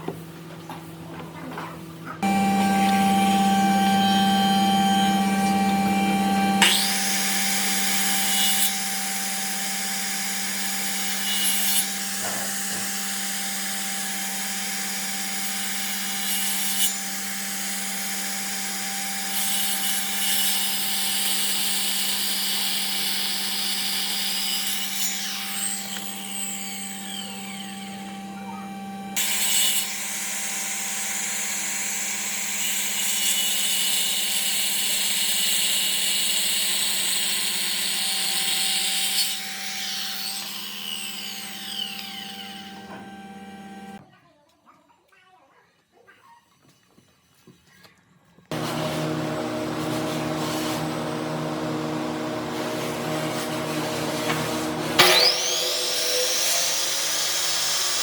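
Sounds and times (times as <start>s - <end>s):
power tool working wood: 2.2s - 44.0s, 48.5s - 58.0s.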